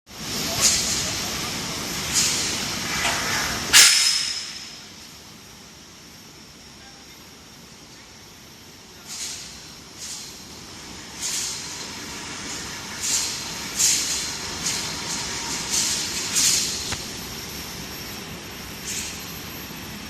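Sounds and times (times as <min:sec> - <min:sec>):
industrial machinery running: 0:00.1 - 0:20.0.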